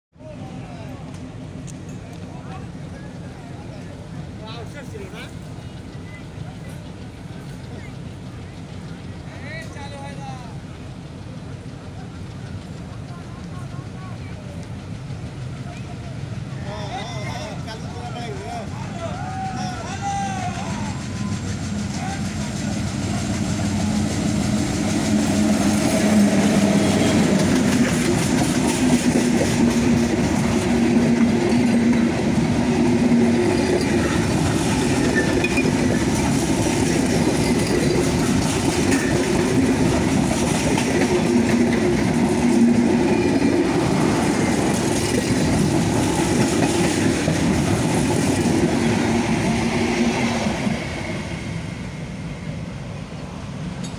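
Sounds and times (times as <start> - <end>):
passing train rumble: 0.2 - 53.9.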